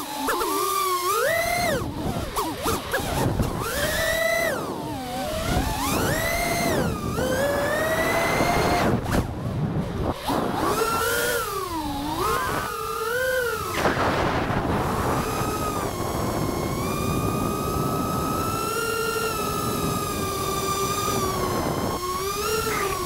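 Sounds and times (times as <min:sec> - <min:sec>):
quadcopter motors whining: 0:00.0 - 0:23.0
wind rush: 0:01.7 - 0:12.9, 0:13.5 - 0:23.0.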